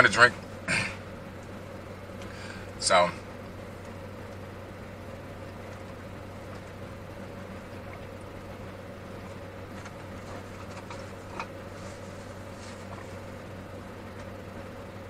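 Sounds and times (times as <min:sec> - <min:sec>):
air conditioning hum: 0:00.0 - 0:15.0
car engine idling: 0:00.0 - 0:15.0.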